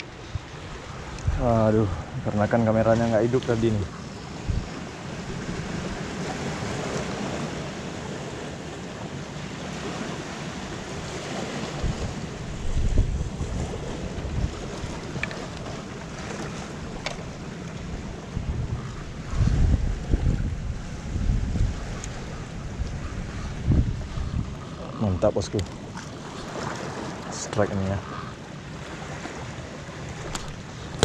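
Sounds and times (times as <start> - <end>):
sea surf on rocky shore: 0.0 - 31.0
wind buffeting microphone: 0.0 - 31.0.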